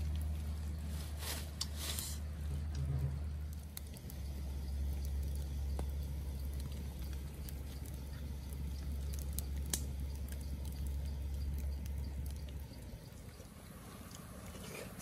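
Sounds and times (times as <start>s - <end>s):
sharp crack of fire: 0.0s - 13.2s
wood fire crackling: 0.0s - 15.0s.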